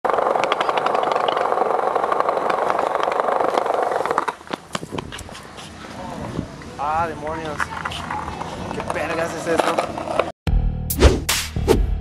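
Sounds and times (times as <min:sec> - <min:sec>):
longboard wheels rumbling on pavement: 0:00.1 - 0:10.3.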